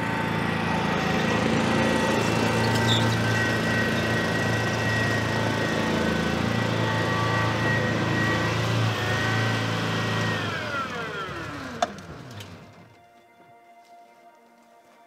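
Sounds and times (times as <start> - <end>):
tracked vehicle engine whine: 0.0 - 14.6.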